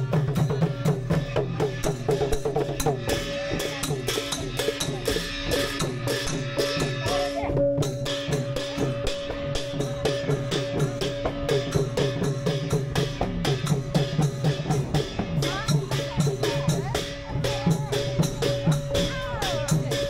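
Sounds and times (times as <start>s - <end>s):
lively percussion-led music: 0.0s - 20.0s.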